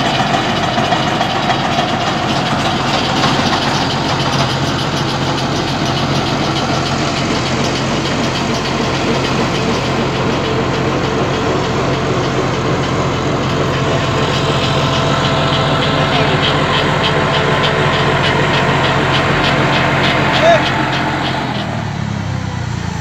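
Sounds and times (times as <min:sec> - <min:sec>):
auger boring into soil: 0:00.0 - 0:22.0
tractor diesel engine running: 0:00.0 - 0:23.0.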